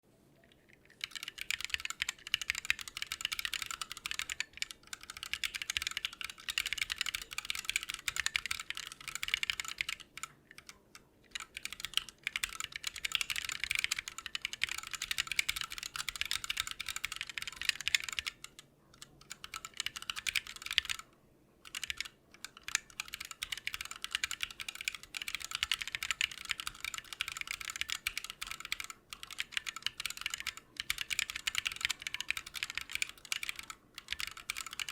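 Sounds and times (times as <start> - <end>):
fast typing on mechanical keyboard: 0.6 - 34.9.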